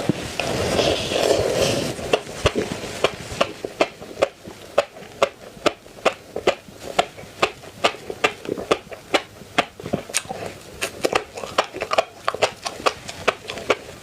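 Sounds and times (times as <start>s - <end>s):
chewing crunchy food: 1.9s - 14.0s.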